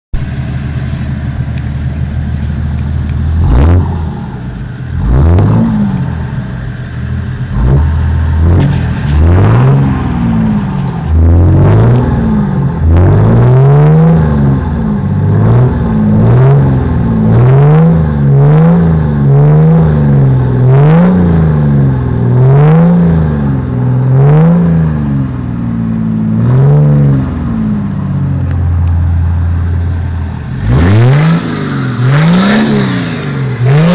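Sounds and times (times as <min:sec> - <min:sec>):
diesel car engine revving: 0:00.2 - 0:33.9.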